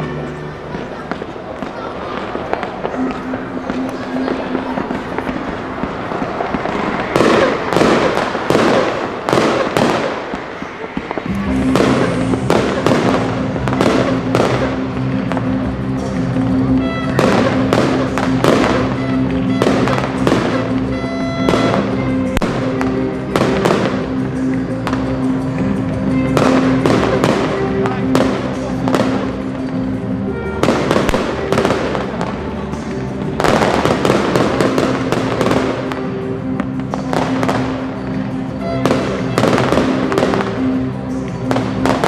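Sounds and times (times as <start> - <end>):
music with long held notes: 0.0 - 10.3, 11.2 - 42.0
fireworks bursting: 0.0 - 42.0.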